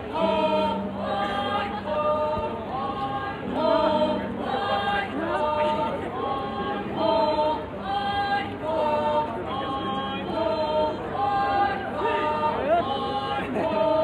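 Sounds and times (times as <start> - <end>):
group singing chanted phrases: 0.0 - 14.0.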